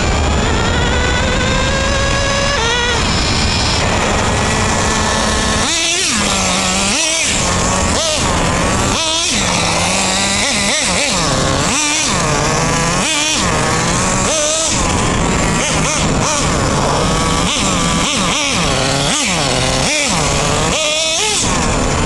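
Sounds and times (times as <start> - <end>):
model car engine revving: 0.0 - 22.0.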